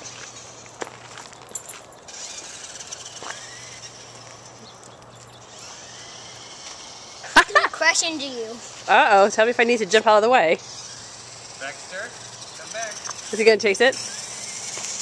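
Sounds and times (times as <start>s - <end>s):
toy truck electric motor whir: 0.0s - 15.0s.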